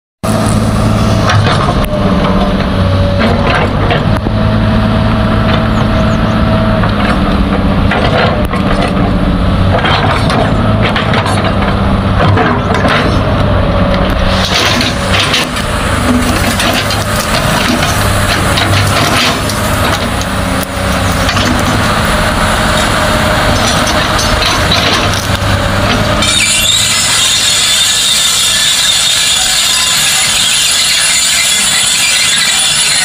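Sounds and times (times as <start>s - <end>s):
excavator diesel engine whining: 0.3s - 33.0s
soil and rocks crunching: 5.4s - 33.0s.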